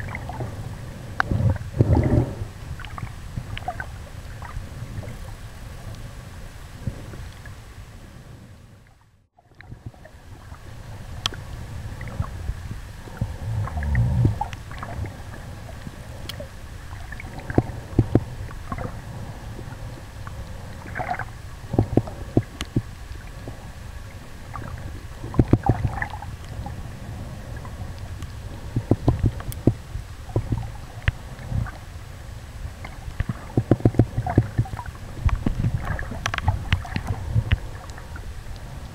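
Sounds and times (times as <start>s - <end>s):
muffled underwater water rumble: 0.0s - 38.9s.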